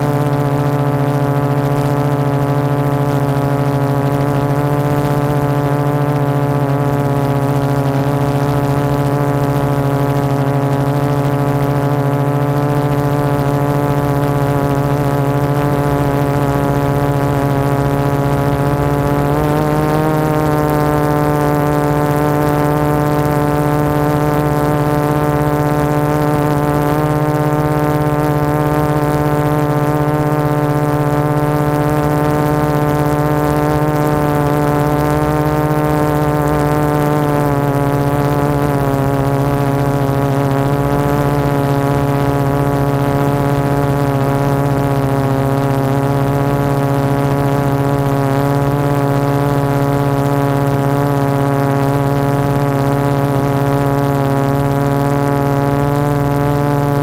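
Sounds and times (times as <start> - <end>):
quadcopter motors buzzing: 0.0 - 57.0.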